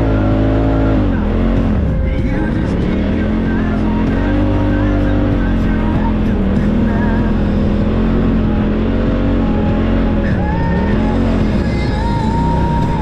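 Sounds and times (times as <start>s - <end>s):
engine revving: 0.0s - 13.0s
steady low rumble: 0.0s - 13.0s.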